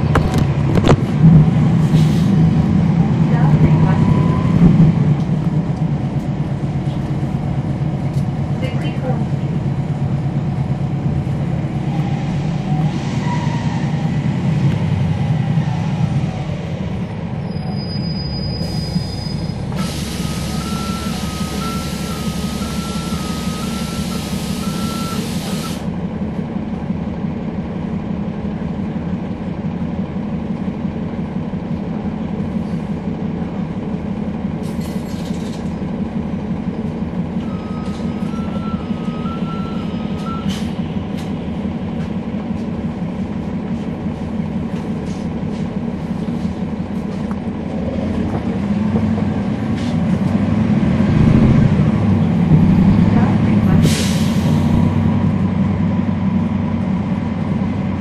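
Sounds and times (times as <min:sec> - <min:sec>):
bus transmission and diesel engine: 0:00.0 - 0:58.0.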